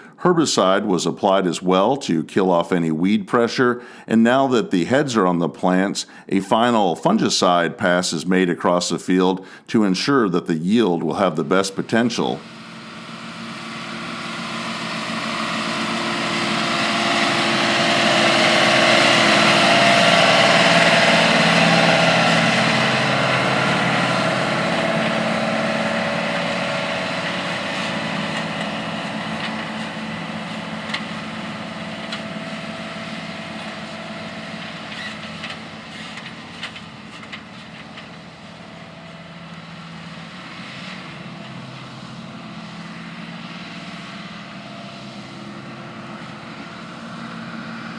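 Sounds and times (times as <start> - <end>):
crop sprayer engine: 0.0 - 1.9, 10.7 - 47.9.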